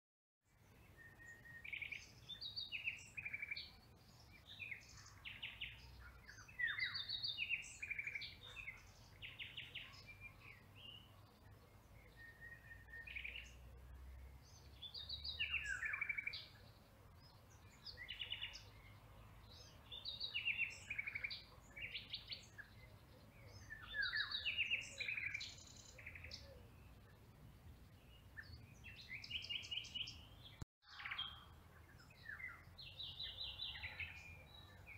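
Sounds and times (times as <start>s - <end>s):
songbirds singing: 0.5s - 34.9s.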